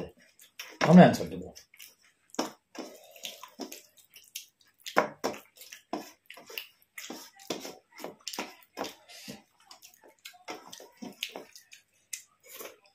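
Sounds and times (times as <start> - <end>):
wet eating smacks and clicks: 0.2 - 12.9.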